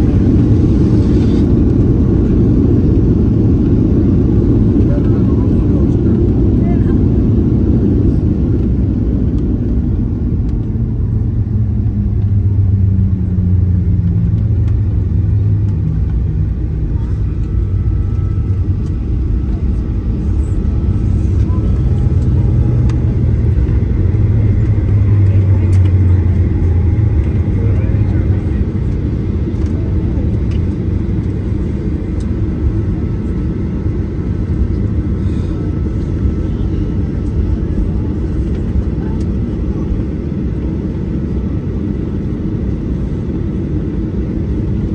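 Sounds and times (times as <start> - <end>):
deep engine hum: 0.0 - 44.9
wheels and engines rumbling: 0.0 - 44.9.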